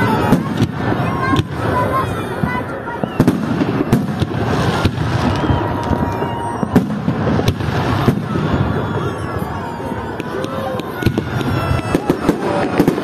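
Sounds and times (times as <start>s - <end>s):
fireworks crackling and rumble: 0.0s - 13.0s.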